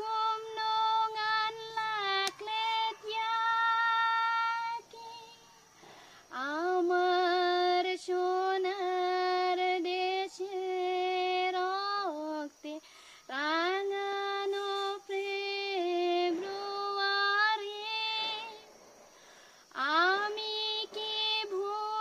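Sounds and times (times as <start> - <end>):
woman singing unaccompanied: 0.0 - 18.8, 19.6 - 22.0.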